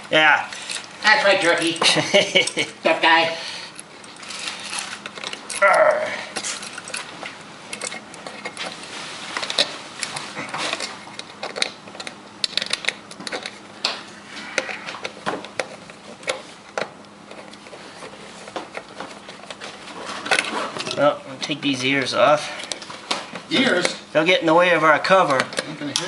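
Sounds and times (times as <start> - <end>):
hands working wires in electrical box: 3.7 - 24.1, 25.0 - 26.0.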